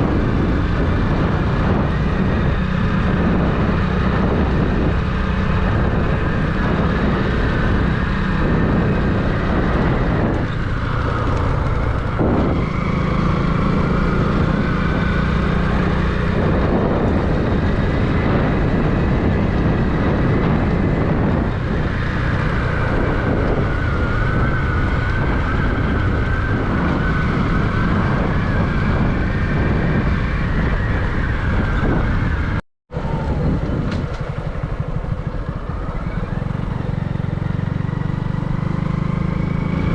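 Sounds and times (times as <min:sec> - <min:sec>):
vehicle low rumble: 0:00.0 - 0:39.9.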